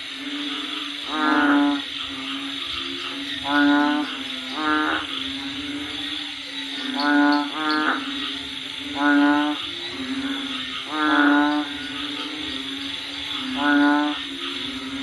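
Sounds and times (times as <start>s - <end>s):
bullfrogs calling: 0.0s - 15.0s
rain hiss: 0.0s - 15.0s.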